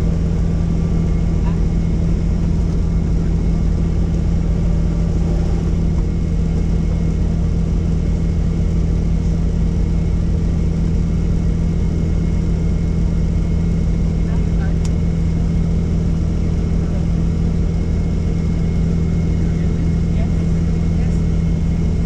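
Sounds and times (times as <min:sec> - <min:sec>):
helicopter rotor and turbine drone: 0:00.0 - 0:22.0.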